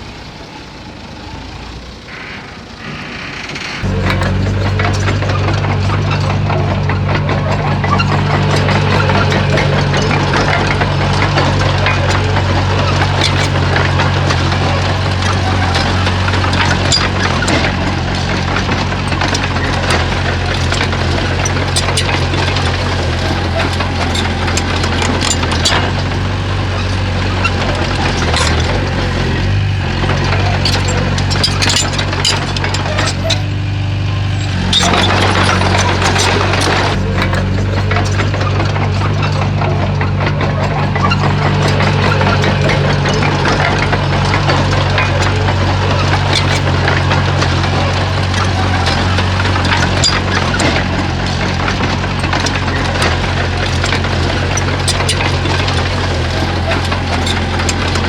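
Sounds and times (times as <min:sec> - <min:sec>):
bulldozer diesel engine running: 0:00.0 - 0:58.0
metallic clanks and knocks: 0:03.7 - 0:58.0.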